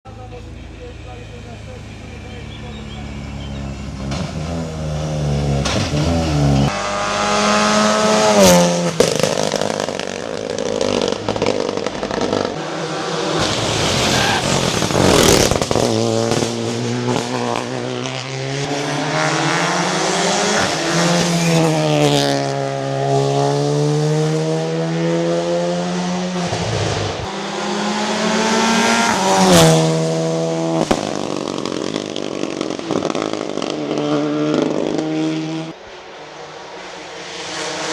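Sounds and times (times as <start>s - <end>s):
rally car engine revving: 0.1s - 37.9s.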